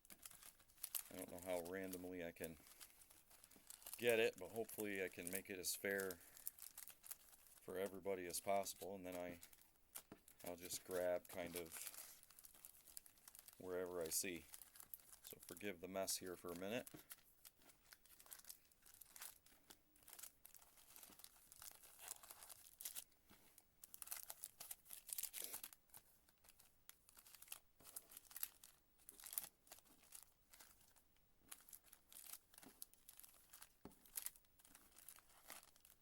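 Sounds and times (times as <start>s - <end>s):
card pack wrappers crinkling: 0.0s - 36.0s.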